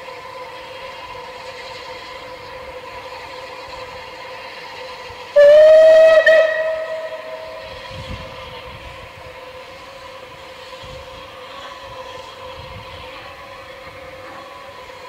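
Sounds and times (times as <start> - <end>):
steady drone: 0.0 - 15.0
steam locomotive whistle: 2.7 - 15.0.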